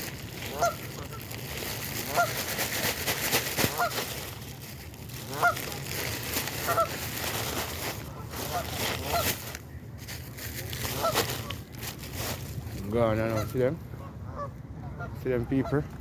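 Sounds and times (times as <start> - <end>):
steady noisy background: 0.0 - 16.0.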